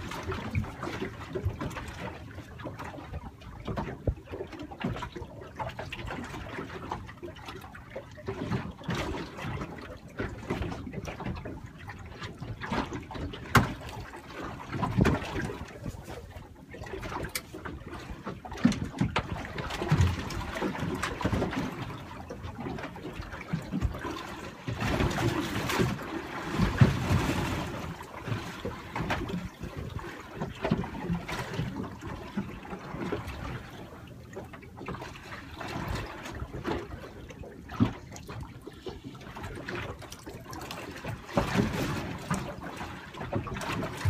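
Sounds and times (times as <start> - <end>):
water lapping against boat hull: 0.0 - 44.0.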